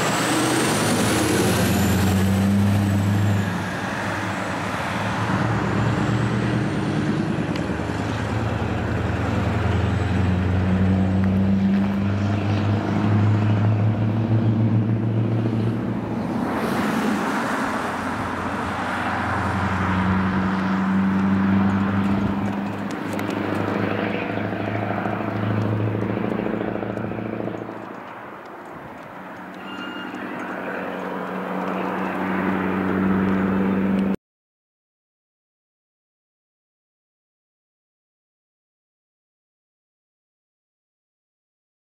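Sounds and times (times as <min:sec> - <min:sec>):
diesel truck engine pulling away: 0:00.0 - 0:34.2.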